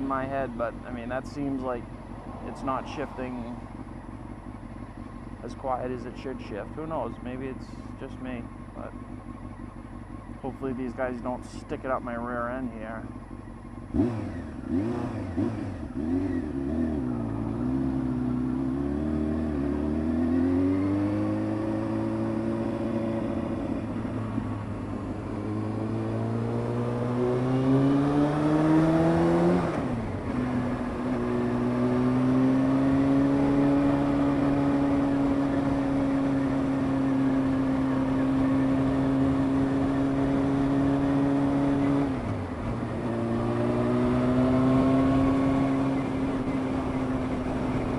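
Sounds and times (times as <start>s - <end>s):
motorcycle engine under way: 0.0s - 47.9s.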